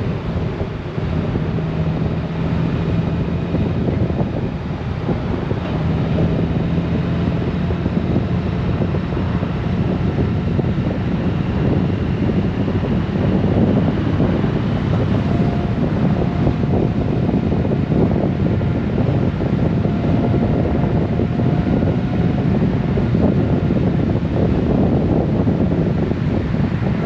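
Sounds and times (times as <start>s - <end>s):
motorcycle engine drone: 0.0s - 27.0s
wind on microphone: 0.0s - 27.0s.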